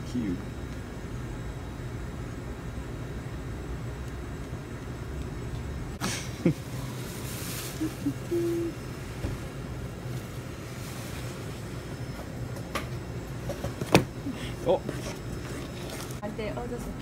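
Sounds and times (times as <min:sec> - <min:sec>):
refrigeration hum: 0:00.0 - 0:17.0.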